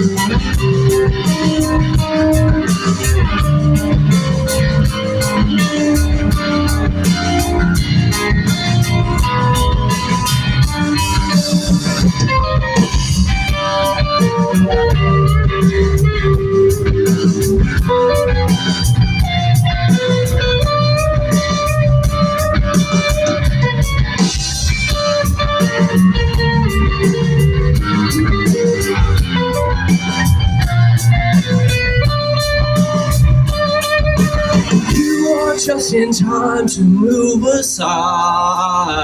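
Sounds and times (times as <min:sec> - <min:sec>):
bass guitar: 0:00.0 - 0:39.0
drum kit: 0:00.0 - 0:39.0
electric guitars: 0:00.0 - 0:39.0.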